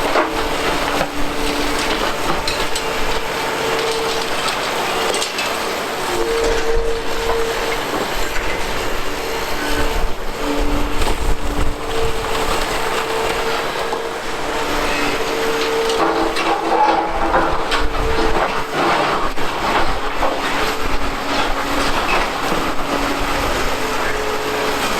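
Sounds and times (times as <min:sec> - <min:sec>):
excavator engine and hydraulics: 0:00.0 - 0:24.9.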